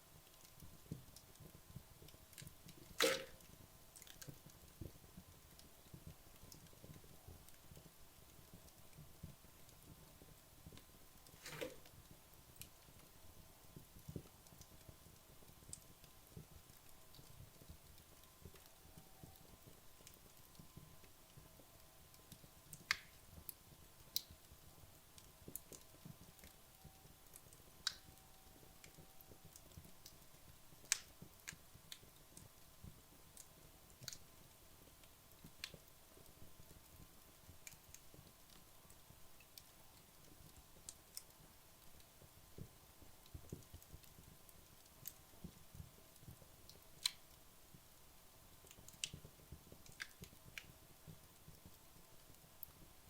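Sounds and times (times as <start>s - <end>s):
logs crackling in a fireplace: 0.0s - 53.0s
low hum of fire: 0.0s - 53.0s.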